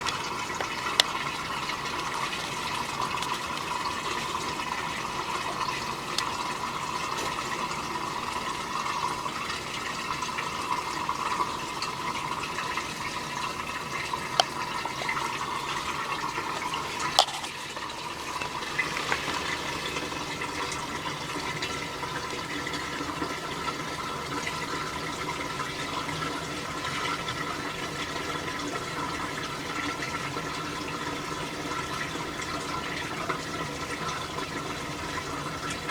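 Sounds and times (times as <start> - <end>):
washing machine running: 0.0 - 35.9.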